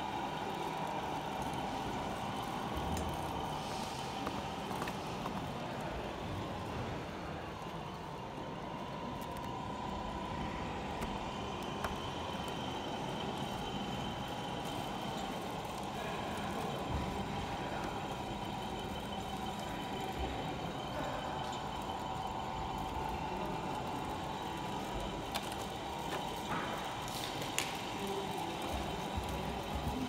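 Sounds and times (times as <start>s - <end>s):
busy hall noise: 0.0s - 30.0s
small motors whining: 0.0s - 30.0s.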